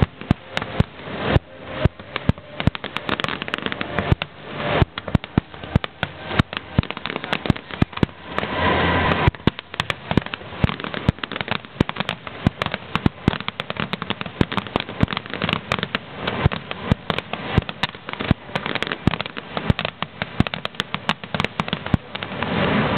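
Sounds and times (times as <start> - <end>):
fireworks bangs: 0.0 - 22.9.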